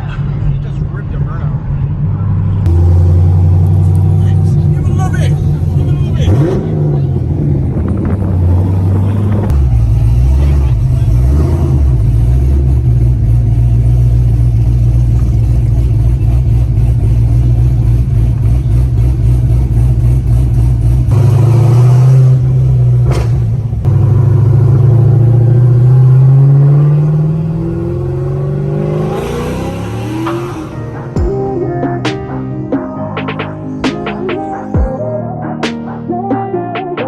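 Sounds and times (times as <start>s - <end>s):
vehicle engine running and revving: 0.0s - 32.7s.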